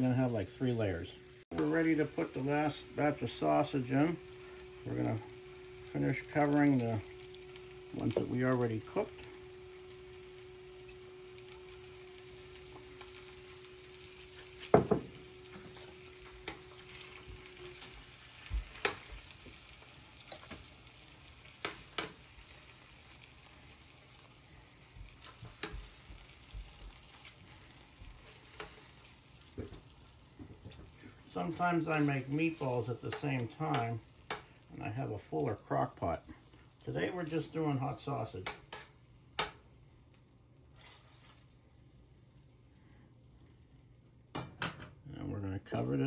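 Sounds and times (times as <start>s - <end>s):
sausages sizzling in frying pan: 0.0s - 44.8s.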